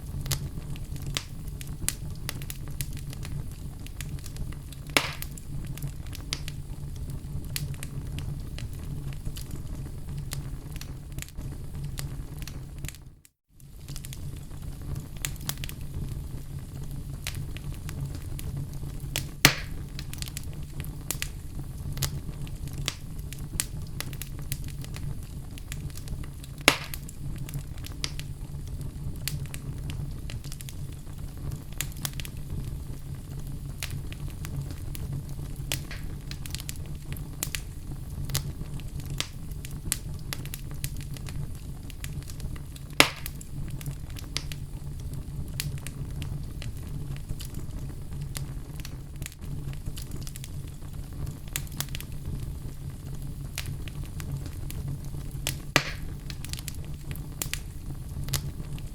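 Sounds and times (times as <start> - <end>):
sharp pops from burning logs: 0.0 - 6.6, 13.7 - 15.8, 17.2 - 18.5, 19.1 - 58.9
fire crackling: 0.0 - 58.9
low rumble of flame: 0.0 - 58.9.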